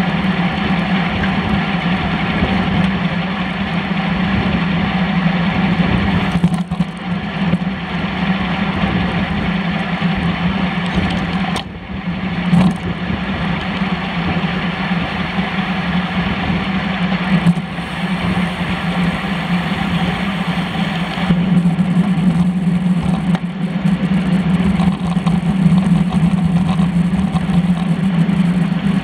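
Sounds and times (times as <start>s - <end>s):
bike tyres on asphalt: 0.0s - 29.0s
low hum: 0.0s - 29.0s.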